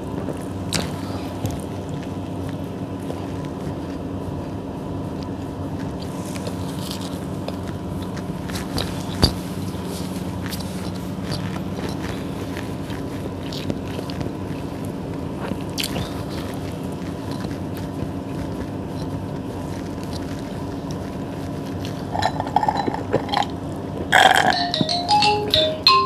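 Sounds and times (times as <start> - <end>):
soft eating sounds: 0.0 - 25.7
steady hum: 0.0 - 26.0.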